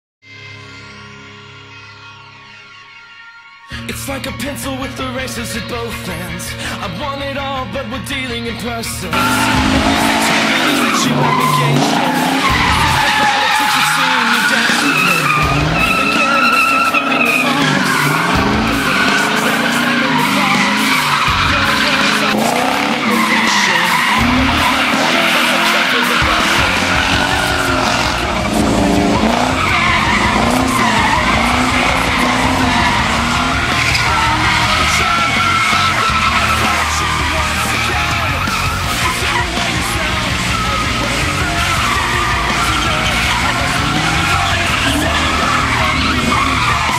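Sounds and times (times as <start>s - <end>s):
car engine revving: 9.0s - 46.9s
tyres squealing: 9.1s - 46.9s.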